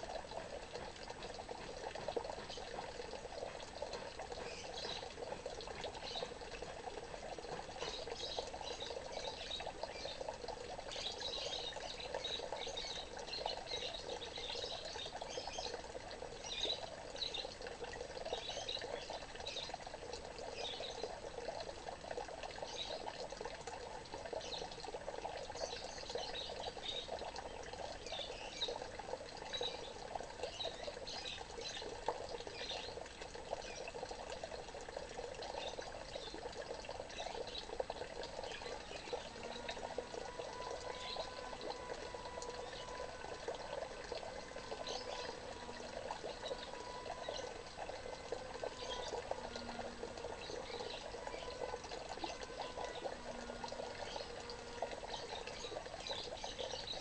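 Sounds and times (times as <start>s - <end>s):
water pouring into a pond: 0.0s - 57.0s.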